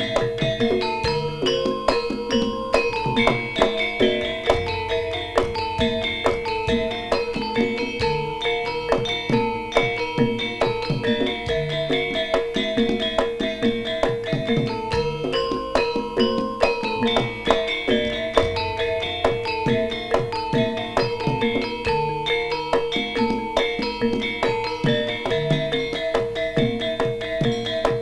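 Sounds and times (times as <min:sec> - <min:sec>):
drum strokes: 0:00.0 - 0:28.0
metallophones and gong-chimes ringing: 0:00.0 - 0:28.0.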